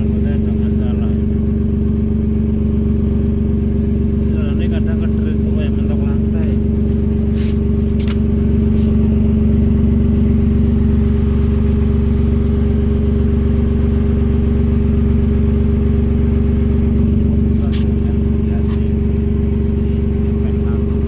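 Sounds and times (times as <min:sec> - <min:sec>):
car engine idling loudly: 0:00.0 - 0:21.0.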